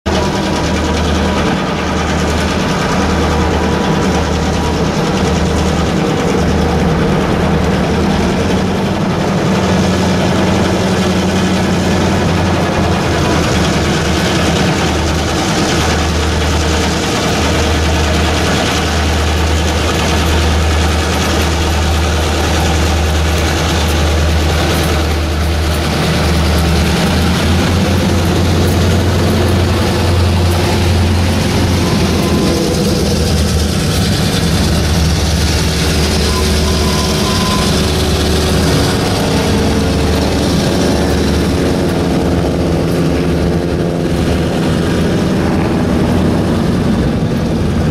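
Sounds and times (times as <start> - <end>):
diesel locomotive engines droning: 0.0 - 47.9.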